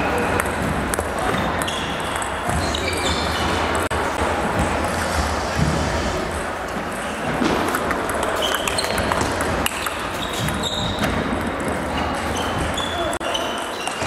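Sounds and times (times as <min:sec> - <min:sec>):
sports hall background noise: 0:00.0 - 0:14.0.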